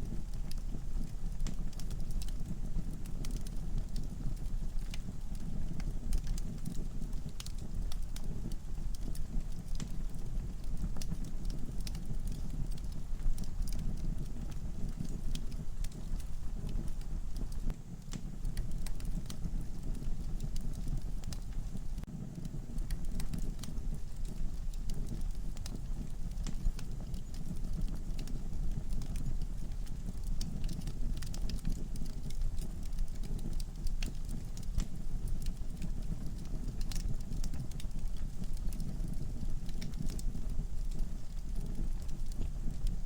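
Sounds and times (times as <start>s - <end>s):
logs crackling and popping: 0.0s - 43.0s
low rush of flames: 0.0s - 43.0s.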